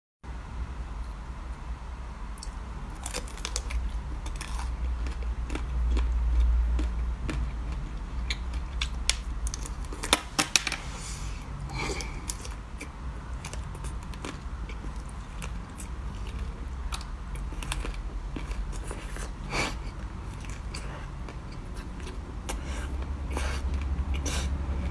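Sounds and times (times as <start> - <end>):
crunching and chewing: 2.4 - 10.4, 11.7 - 24.9.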